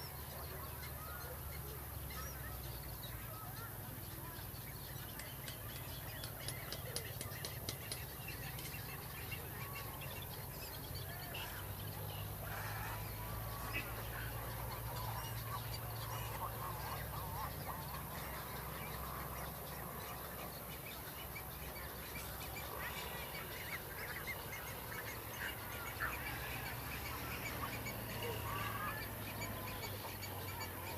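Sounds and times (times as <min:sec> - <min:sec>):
egrets croaking calls: 0:00.0 - 0:30.9
steady low hum: 0:00.0 - 0:30.9.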